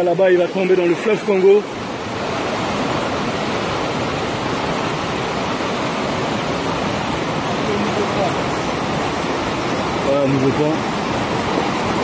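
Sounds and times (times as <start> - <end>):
river rapids roaring: 0.0 - 12.0.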